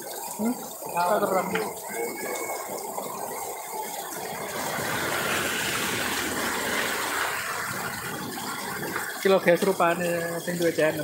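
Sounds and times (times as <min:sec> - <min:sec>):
rain on a corrugated roof: 0:00.0 - 0:11.0.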